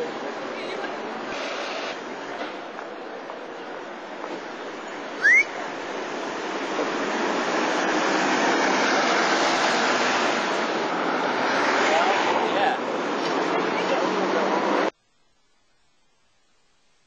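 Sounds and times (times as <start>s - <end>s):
street traffic rushing: 0.0s - 15.0s.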